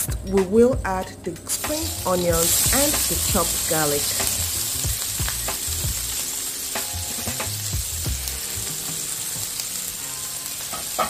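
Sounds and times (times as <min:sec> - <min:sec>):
onions sizzling in oil: 0:01.5 - 0:11.0
oil crackles: 0:01.8 - 0:10.7.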